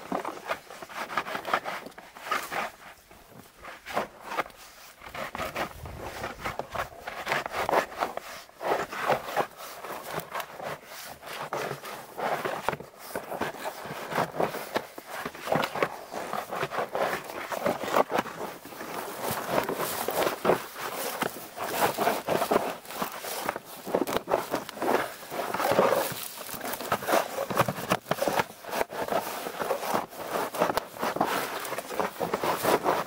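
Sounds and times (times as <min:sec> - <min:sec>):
knife scraping birch bark: 0:03.6 - 0:12.8, 0:13.4 - 0:33.0.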